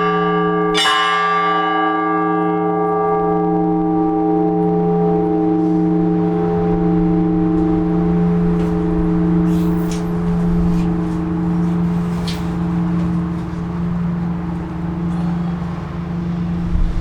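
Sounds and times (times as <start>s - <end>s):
large church bell ringing: 0.0s - 17.0s.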